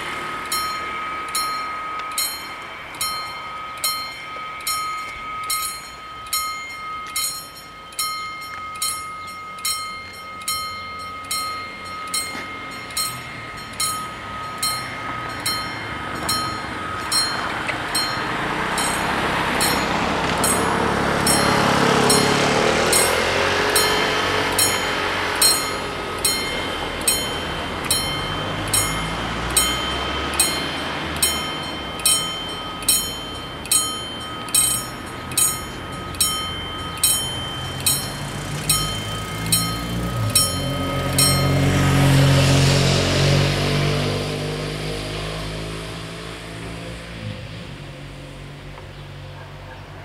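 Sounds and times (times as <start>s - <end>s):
car engine approaching: 0.0s - 50.0s
level crossing warning bell: 0.0s - 50.0s.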